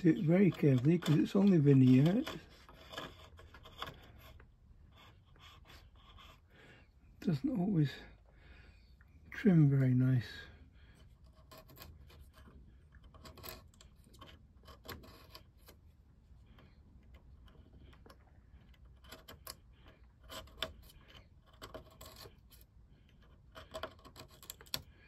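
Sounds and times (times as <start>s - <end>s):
craft knife scratching wood: 0.0s - 6.6s, 11.0s - 25.0s.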